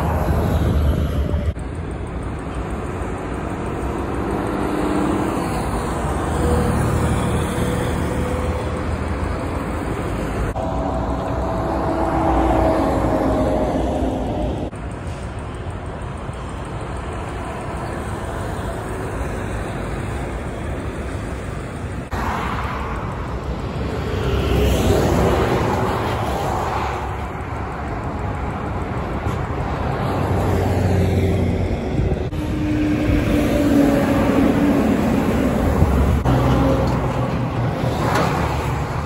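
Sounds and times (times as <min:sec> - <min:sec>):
diesel engine rumble: 0:00.0 - 0:39.0.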